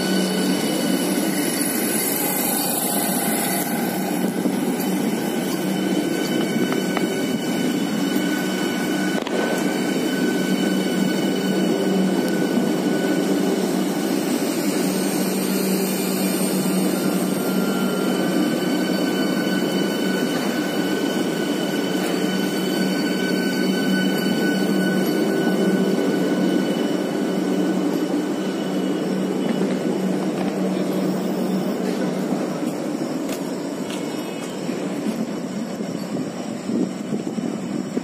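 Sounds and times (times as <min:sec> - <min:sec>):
electric train hum and whine: 0:00.0 - 0:38.0.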